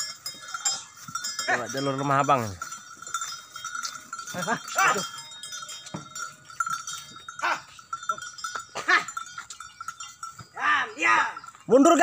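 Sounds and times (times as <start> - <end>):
cattle bells ringing: 0.0 - 12.0.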